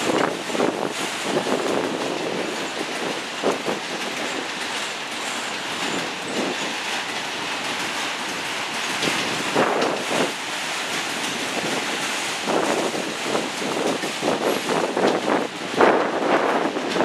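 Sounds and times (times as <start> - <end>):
steel wheels rumbling on rail: 0.0 - 17.0
wheels clacking over rail joints: 0.0 - 17.0.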